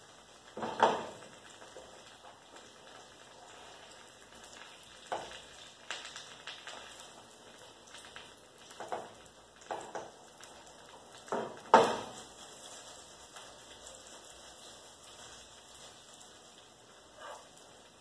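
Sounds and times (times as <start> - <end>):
omelette sizzling in a pan: 0.0 - 18.0.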